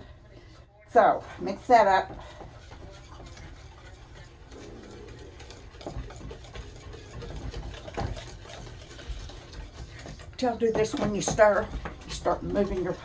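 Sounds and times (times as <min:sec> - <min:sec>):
utensil scraping mixing bowl: 0:01.0 - 0:13.0.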